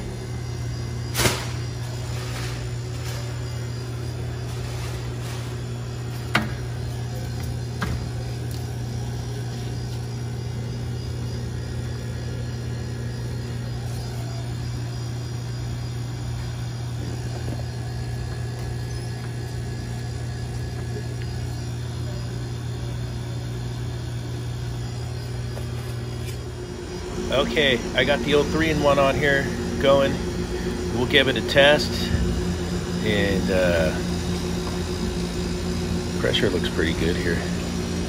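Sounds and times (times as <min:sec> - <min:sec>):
refrigeration compressor humming: 0:00.0 - 0:38.0.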